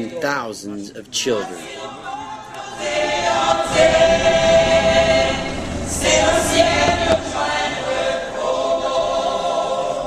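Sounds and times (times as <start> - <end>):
choir singing: 1.3 - 10.0.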